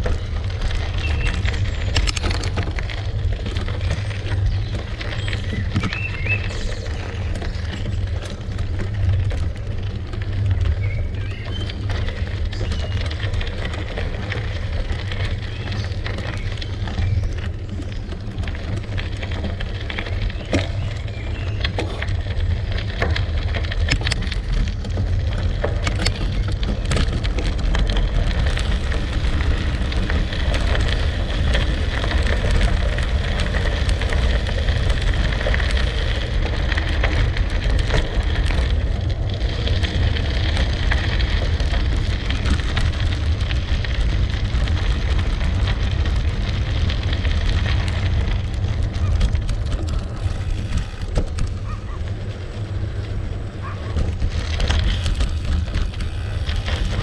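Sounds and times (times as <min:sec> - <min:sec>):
bike tyres rolling over gravel: 0:00.0 - 0:57.0.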